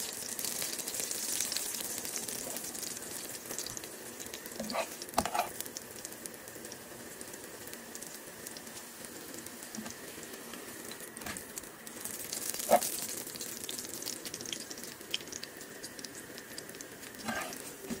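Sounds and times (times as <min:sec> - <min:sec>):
bread sizzling in ghee: 0:00.0 - 0:18.0.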